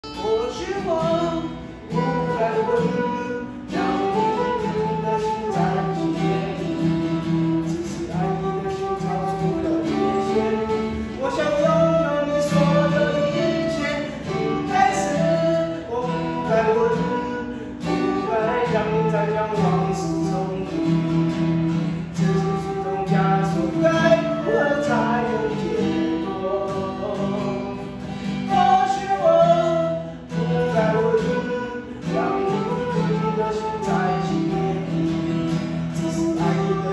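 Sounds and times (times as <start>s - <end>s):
acoustic guitar: 0.0s - 36.9s
man singing: 0.0s - 36.9s.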